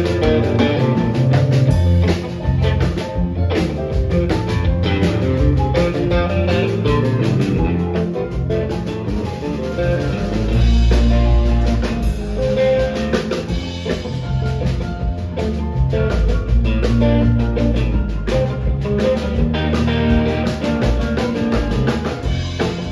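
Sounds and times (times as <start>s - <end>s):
heavy bass line: 0.0s - 22.9s
rock band playing instrumental: 0.0s - 22.9s
steady drumming: 0.0s - 22.9s.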